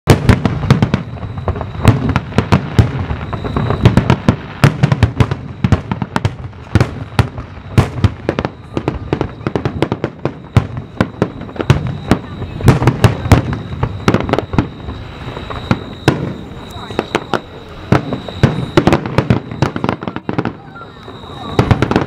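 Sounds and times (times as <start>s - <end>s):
firework shells bursting: 0.1s - 22.0s.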